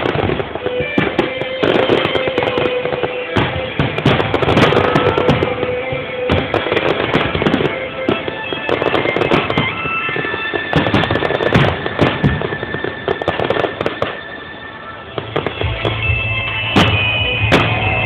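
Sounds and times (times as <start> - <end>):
fireworks bursting: 0.0 - 18.0
fireworks crackling: 0.0 - 18.0
music: 0.0 - 18.0.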